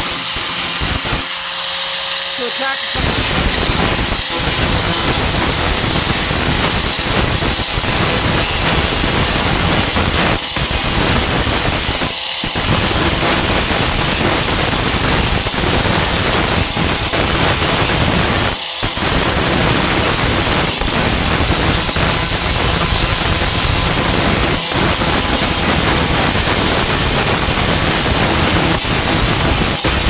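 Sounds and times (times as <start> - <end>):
angle grinder grinding steel: 0.0 - 30.0.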